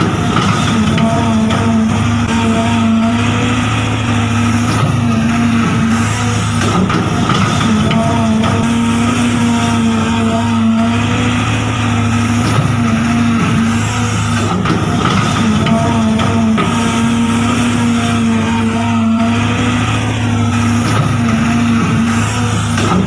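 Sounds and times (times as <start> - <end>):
small electric motors whining: 0.0 - 23.0.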